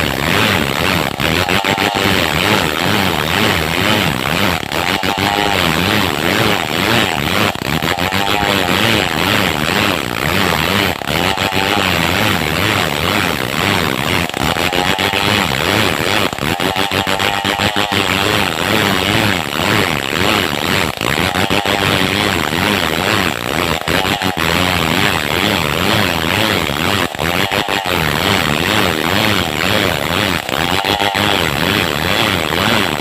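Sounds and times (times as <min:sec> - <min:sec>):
chainsaw cutting log: 0:00.0 - 0:33.0.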